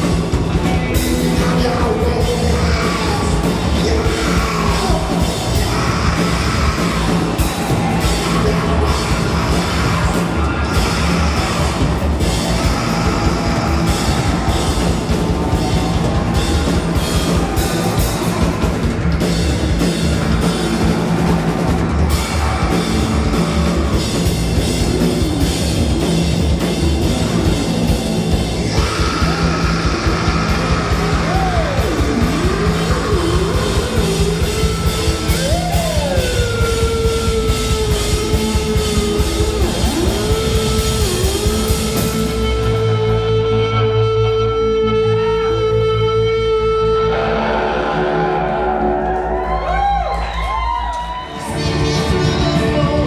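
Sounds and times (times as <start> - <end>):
heavy electric guitars: 0.0 - 53.0.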